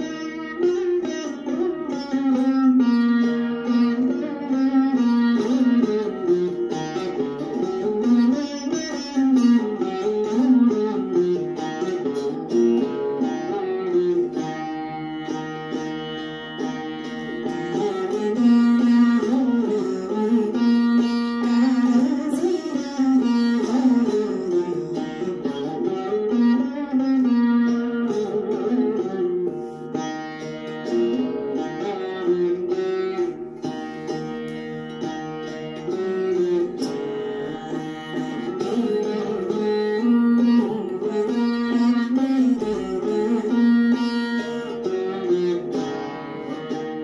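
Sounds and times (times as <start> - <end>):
veena melody with sliding pitch: 0.0 - 47.0.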